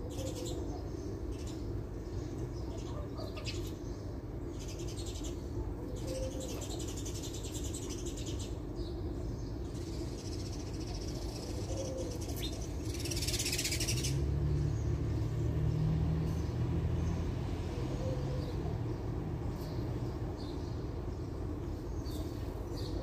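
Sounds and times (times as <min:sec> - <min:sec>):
outdoor hum: 0:00.0 - 0:23.0.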